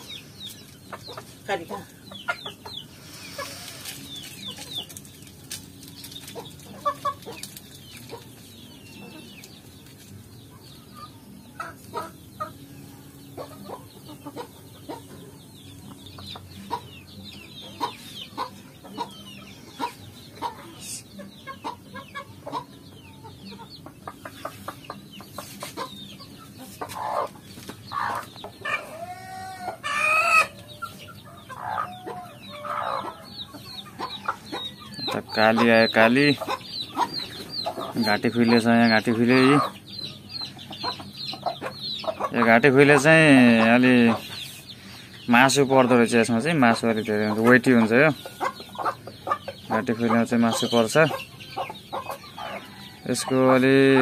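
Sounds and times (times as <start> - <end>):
chickens clucking: 0.0 - 54.0
chicks peeping: 0.0 - 54.0.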